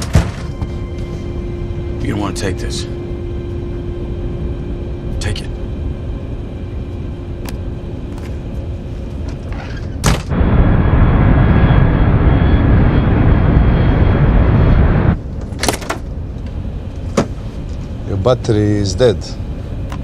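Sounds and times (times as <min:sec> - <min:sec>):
faint steady whine: 0:00.0 - 0:20.0
low cabin hum: 0:00.0 - 0:20.0.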